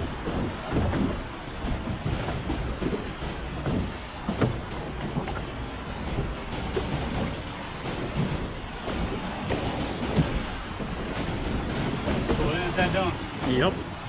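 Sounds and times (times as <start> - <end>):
water lapping against boat: 0.0 - 14.0
water slapping hull: 0.0 - 14.0
wind rumbling on microphone: 0.0 - 14.0.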